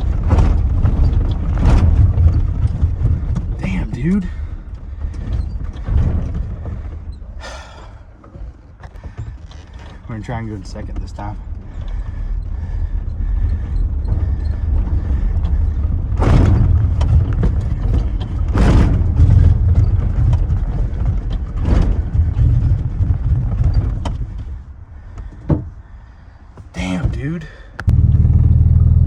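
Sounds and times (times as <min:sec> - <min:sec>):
loud clunks: 0:00.0 - 0:10.1, 0:10.7 - 0:28.3
pickup truck rolling rumble: 0:00.0 - 0:29.0.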